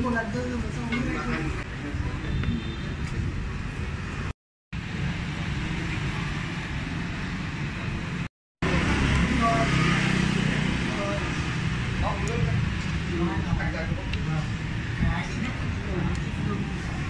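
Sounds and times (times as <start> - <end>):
passing vehicles rumbling: 0.0 - 17.0.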